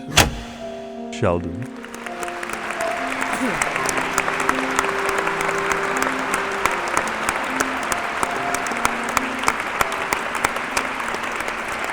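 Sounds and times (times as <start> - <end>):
held music notes: 0.0 - 11.9
applause: 1.5 - 11.9.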